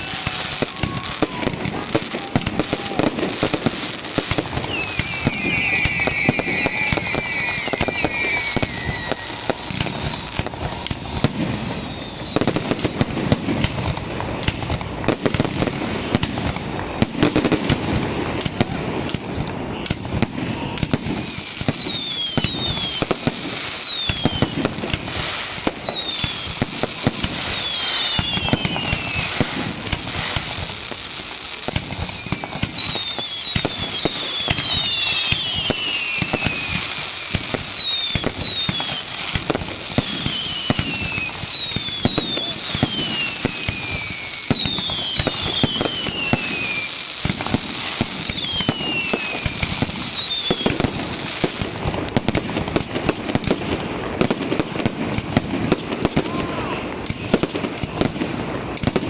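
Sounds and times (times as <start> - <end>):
falling firework whistles: 0.0 - 59.0
fireworks bursts and crackling: 0.0 - 59.0.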